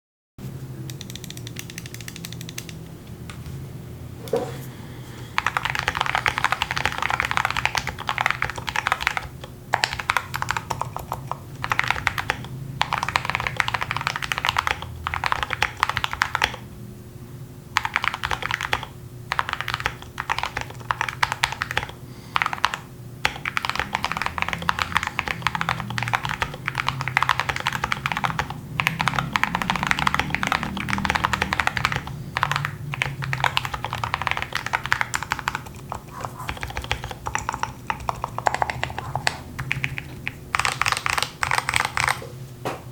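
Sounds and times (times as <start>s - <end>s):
typing on mechanical keyboard: 0.9s - 2.8s, 5.4s - 16.6s, 17.8s - 42.2s.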